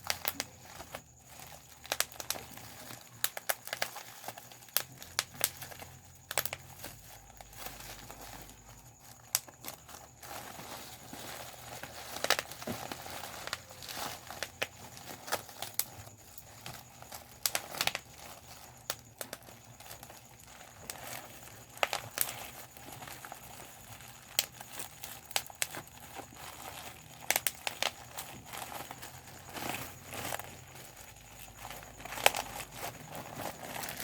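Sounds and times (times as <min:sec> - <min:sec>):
bubble wrap crinkling: 0:00.0 - 0:34.0
bubble wrap popping: 0:00.0 - 0:34.0.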